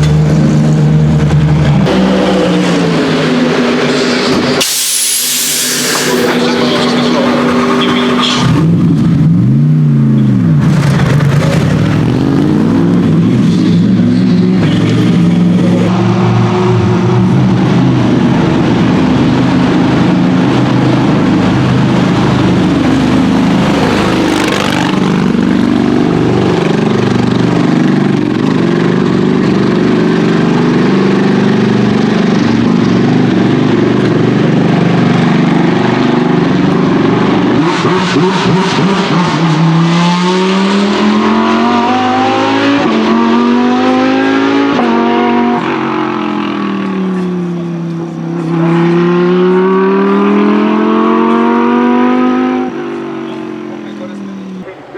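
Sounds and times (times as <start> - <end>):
car engine accelerating through upshifts: 0.0 - 54.7
race cars passing at speed: 0.0 - 54.9.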